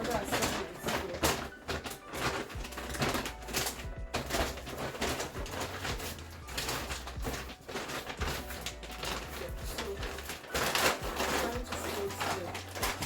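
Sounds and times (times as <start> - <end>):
quiet background music: 0.0 - 13.0
shopping bag rustling: 0.0 - 13.0.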